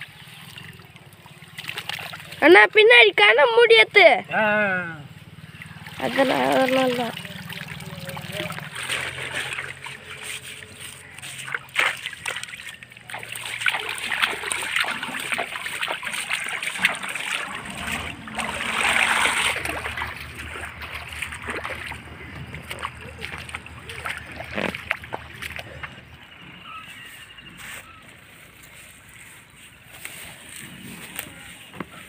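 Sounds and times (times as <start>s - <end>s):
stream water splashing: 0.0s - 32.0s.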